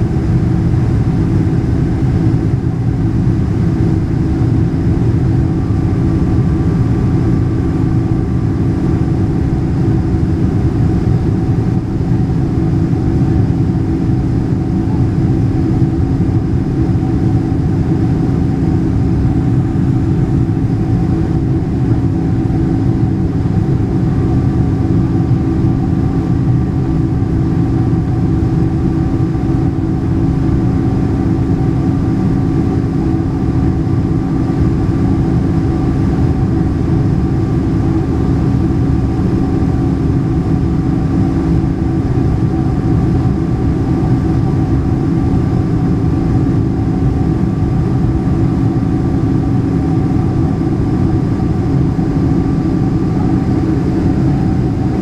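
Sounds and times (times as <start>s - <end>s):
jet engines droning: 0.0s - 55.0s
low steady hum: 0.0s - 55.0s.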